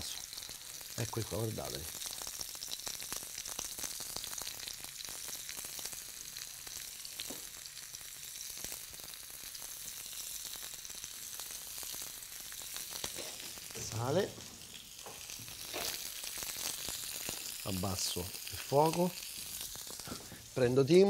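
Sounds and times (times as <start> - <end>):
asparagus frying in oil: 0.0 - 21.0.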